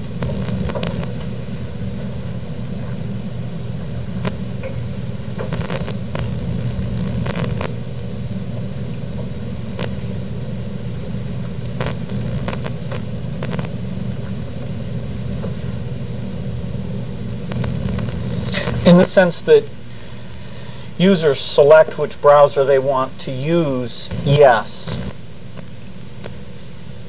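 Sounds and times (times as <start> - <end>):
tape hum and hiss: 0.0 - 27.0.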